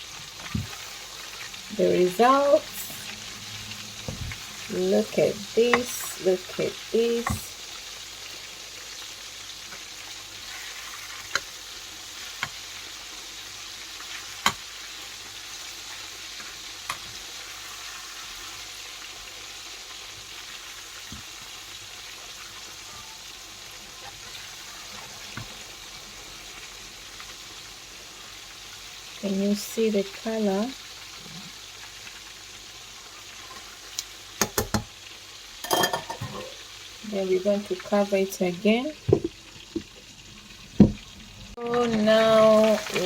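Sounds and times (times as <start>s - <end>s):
chicken deep-frying in oil: 0.0s - 43.0s.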